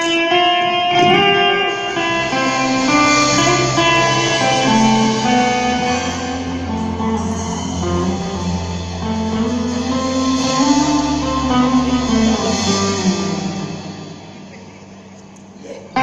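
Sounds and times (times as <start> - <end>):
guitar: 0.0 - 16.0
live band playing: 0.0 - 16.0
low bass notes: 0.0 - 16.0.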